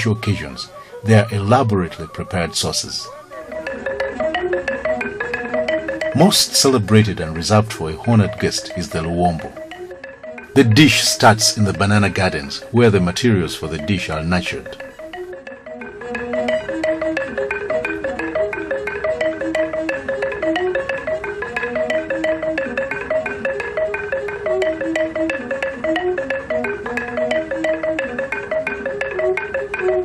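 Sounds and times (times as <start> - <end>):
xylophone-like mallet music: 0.0 - 30.0.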